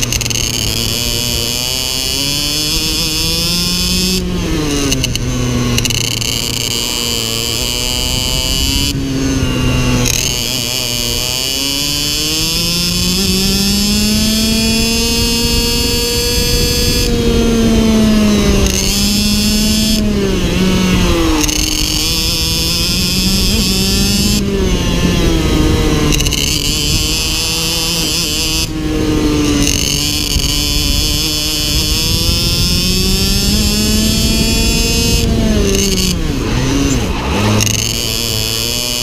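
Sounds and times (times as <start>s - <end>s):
kart engine racing: 0.0s - 39.0s.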